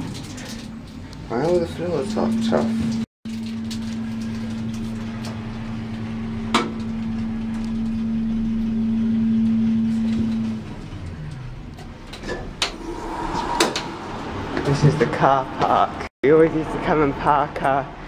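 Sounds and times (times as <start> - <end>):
lift drive hum: 1.0 - 15.6.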